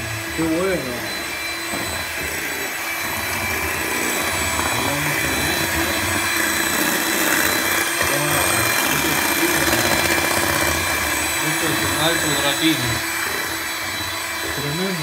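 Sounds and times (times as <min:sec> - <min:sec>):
electric hand mixer whipping cream: 0:00.0 - 0:15.0.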